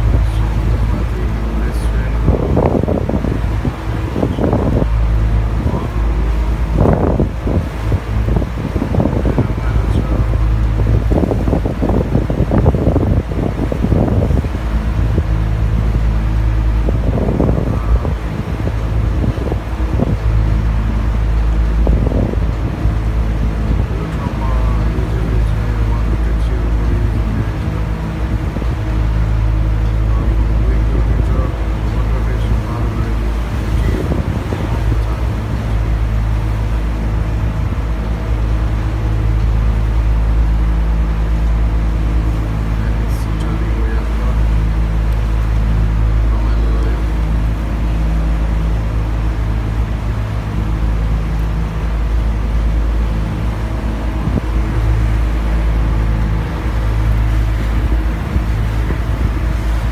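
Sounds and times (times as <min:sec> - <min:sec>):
boat engine droning: 0:00.0 - 0:59.9
wind buffeting microphone: 0:00.0 - 0:59.9.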